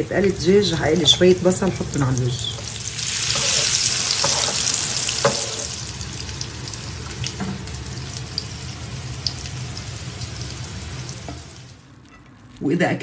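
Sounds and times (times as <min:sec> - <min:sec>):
onions sizzling in pan: 0:00.0 - 0:11.9.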